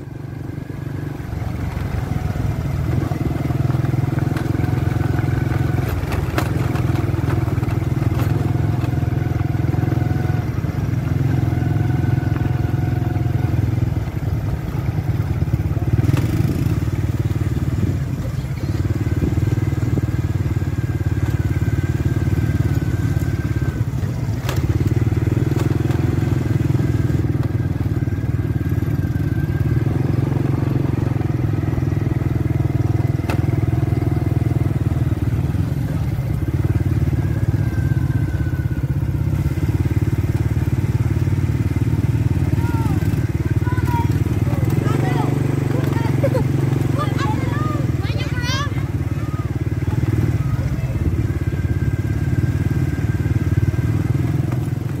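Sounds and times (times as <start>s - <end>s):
motorbike engine running: 0.0s - 55.0s.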